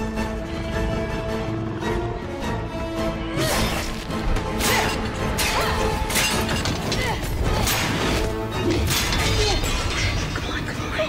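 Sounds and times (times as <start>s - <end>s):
dramatic film score: 0.0s - 11.0s.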